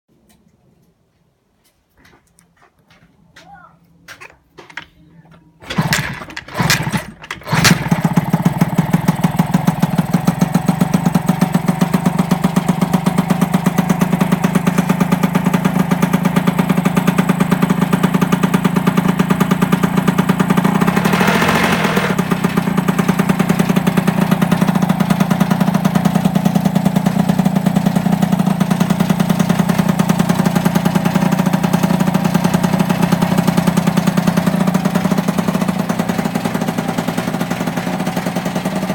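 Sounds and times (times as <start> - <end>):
moped engine sputtering: 5.6 - 38.9
two-stroke moped engine running: 5.6 - 38.9.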